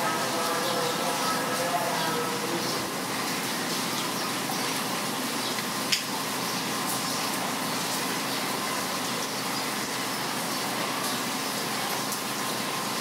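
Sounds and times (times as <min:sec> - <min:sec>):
rain on wet street: 0:00.0 - 0:13.0.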